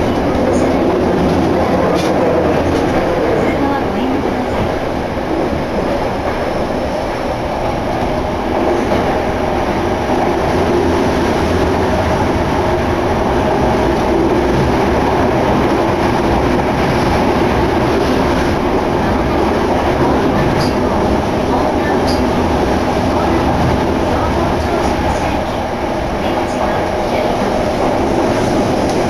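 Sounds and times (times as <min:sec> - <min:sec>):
subway train wheels and motors rumbling: 0:00.0 - 0:29.0.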